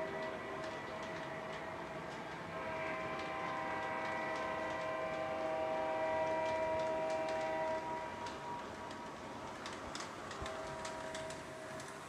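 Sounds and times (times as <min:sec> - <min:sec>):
wheels clicking on rails: 0:00.0 - 0:12.0.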